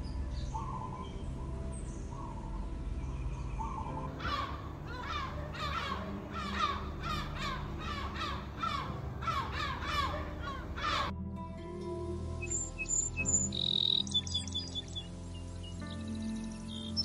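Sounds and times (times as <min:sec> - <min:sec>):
bird calling: 0:00.0 - 0:11.1, 0:12.4 - 0:17.0.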